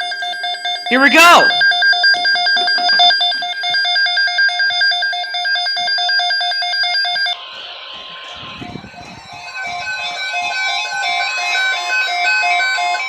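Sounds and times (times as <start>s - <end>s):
two-tone alarm beeping: 0.0s - 13.0s.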